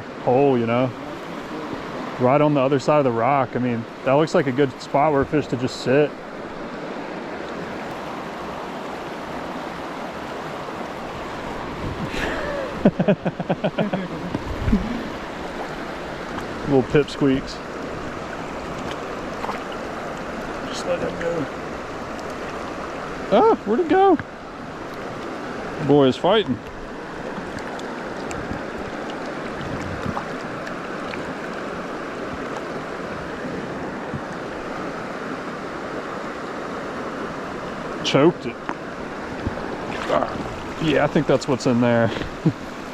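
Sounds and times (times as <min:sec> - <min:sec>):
mountain stream running: 0:00.0 - 0:42.9.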